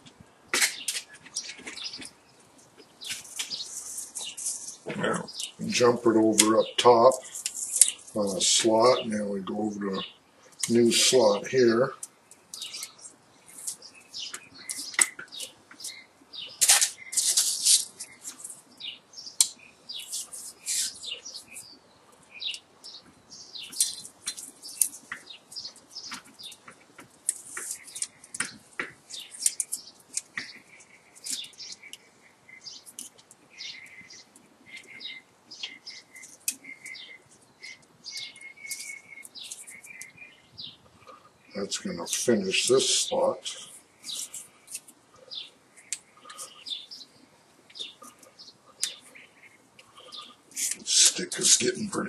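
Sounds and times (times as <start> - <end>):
wire scraping and clicking: 0.0 - 9.0, 10.5 - 41.5, 42.1 - 51.8.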